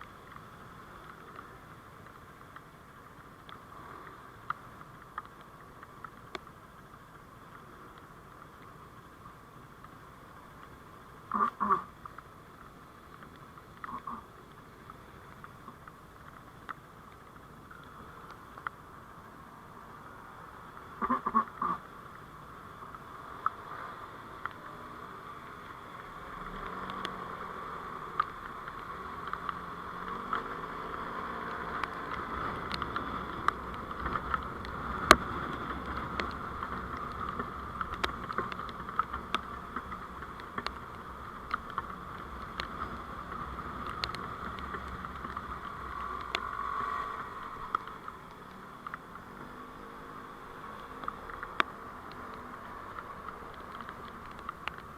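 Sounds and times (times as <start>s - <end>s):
small clicks and ticks: 0.0s - 54.9s
vehicle engine and road noise: 0.0s - 54.9s.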